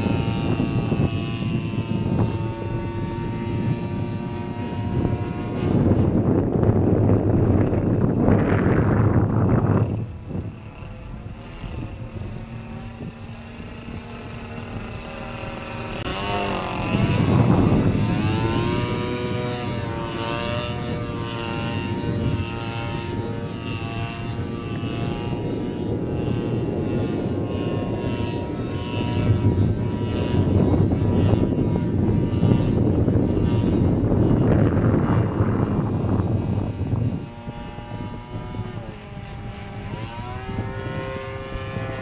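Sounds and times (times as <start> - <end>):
model airplane engine in flight: 0.0 - 42.0.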